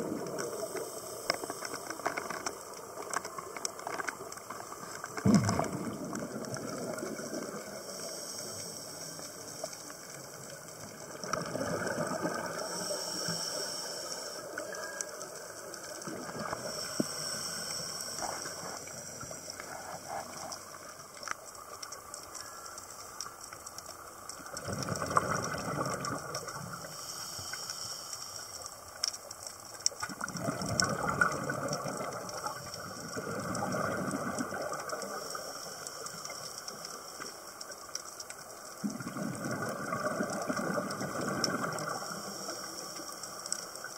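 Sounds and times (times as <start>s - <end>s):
underwater exhaled bubbles: 0.0s - 43.9s.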